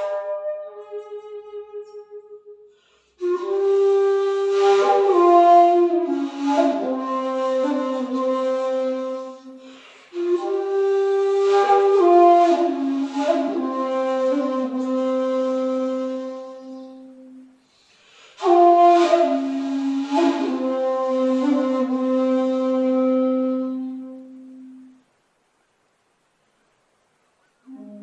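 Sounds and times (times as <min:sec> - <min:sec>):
bamboo flute playing: 0:00.0 - 0:25.1, 0:27.7 - 0:28.0.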